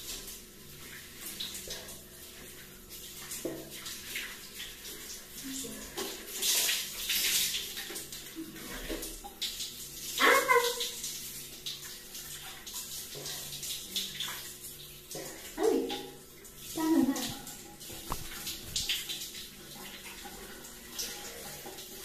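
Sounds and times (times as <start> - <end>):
shower spray splashing: 0.0 - 22.0.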